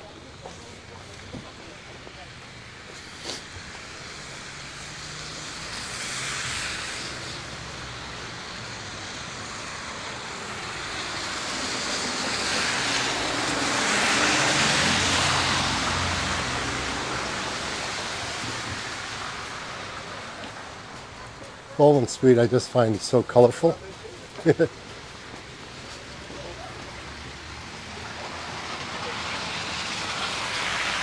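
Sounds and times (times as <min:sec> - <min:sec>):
tyres hissing on wet street: 0:00.0 - 0:31.0
vehicle engine hum: 0:00.0 - 0:31.0.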